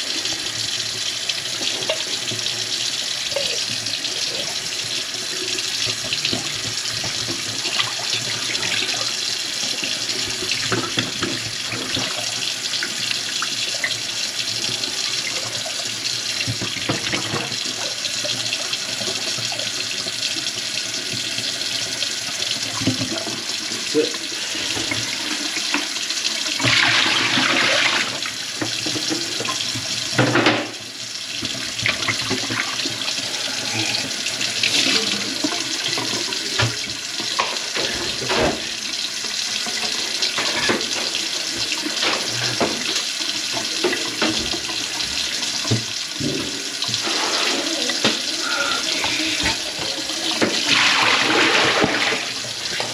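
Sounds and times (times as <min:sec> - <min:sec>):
faucet running water into sink: 0:00.0 - 0:52.9.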